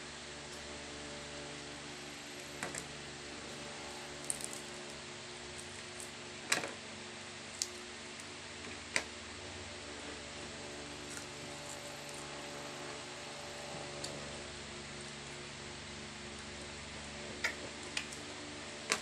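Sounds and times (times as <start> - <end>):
low hum of room noise: 0.0 - 19.0.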